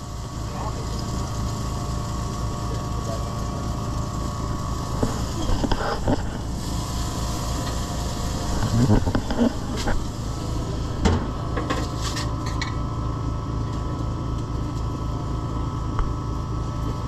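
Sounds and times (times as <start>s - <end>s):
pulsing machine hum: 0.0s - 17.0s.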